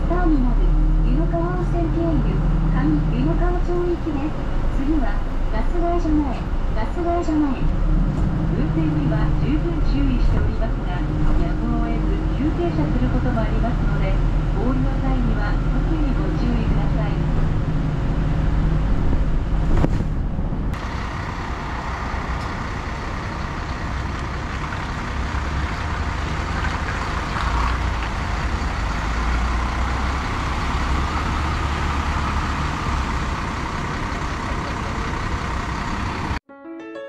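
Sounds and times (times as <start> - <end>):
bus engine rumble: 0.0 - 36.4
road noise: 0.0 - 36.4.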